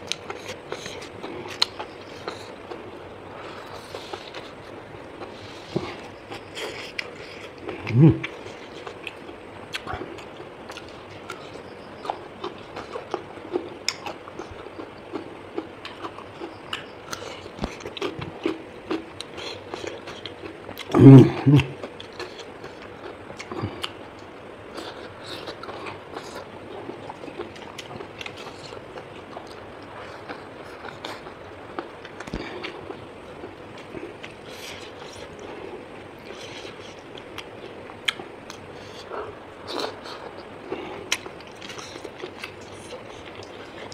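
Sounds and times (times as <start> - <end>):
chewing with crisp clicks: 0.0 - 2.8, 5.8 - 21.0, 21.8 - 35.5, 36.2 - 43.9
steady background hiss: 0.0 - 43.9.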